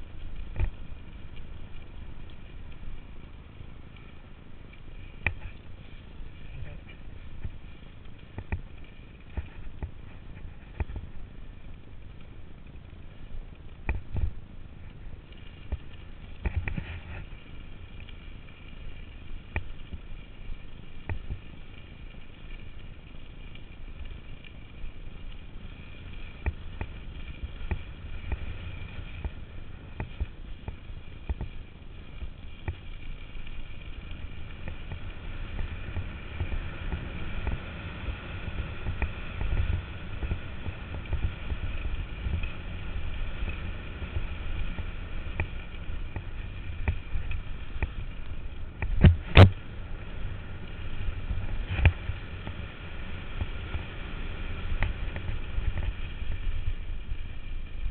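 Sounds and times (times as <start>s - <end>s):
bicycle tyre noise: 0.0s - 57.9s
bike rattling over bumps: 0.0s - 57.9s
wind rumble on microphone: 0.0s - 57.9s.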